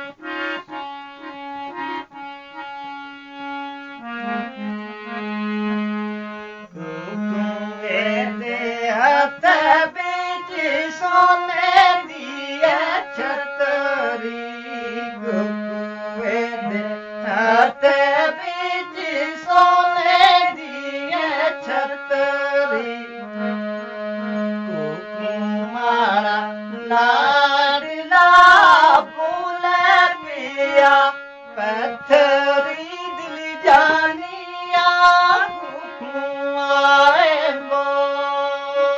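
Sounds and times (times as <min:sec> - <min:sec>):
harmonium: 0:00.0 - 0:38.9
person singing folk song: 0:03.8 - 0:38.9.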